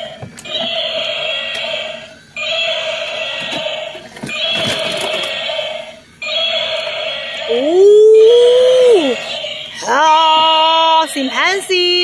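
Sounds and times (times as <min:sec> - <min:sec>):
toy electronic sound effect: 0:00.4 - 0:10.6.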